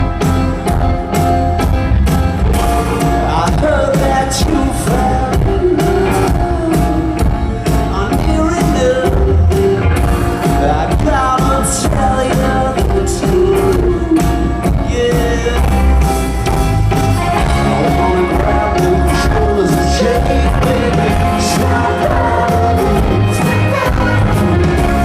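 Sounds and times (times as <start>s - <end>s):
rock band playing live: 0.0s - 25.0s
steady drum beat: 0.0s - 25.0s
lead voice singing: 2.4s - 16.2s, 17.2s - 25.0s.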